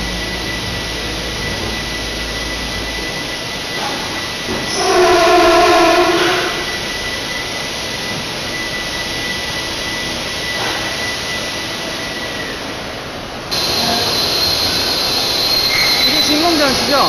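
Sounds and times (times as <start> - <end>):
production line machine hiss: 0.0 - 17.0
thin high whine: 0.0 - 17.0.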